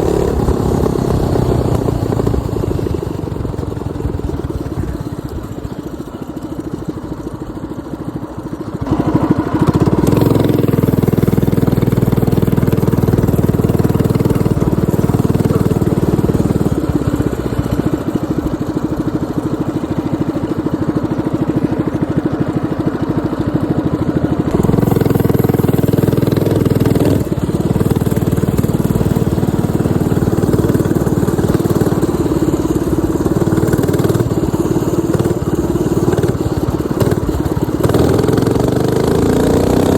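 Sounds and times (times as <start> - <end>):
minibike engine running: 0.0 - 39.9.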